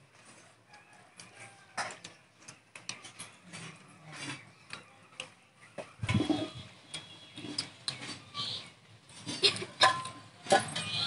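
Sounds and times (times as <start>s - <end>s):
people eating by hand: 0.0s - 11.0s.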